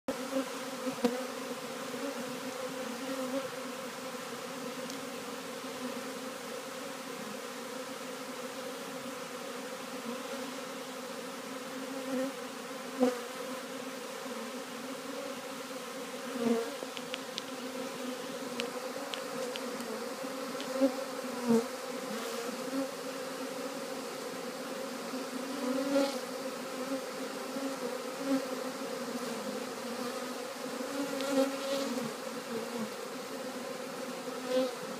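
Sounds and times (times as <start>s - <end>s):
honey bees buzzing: 0.1s - 34.9s.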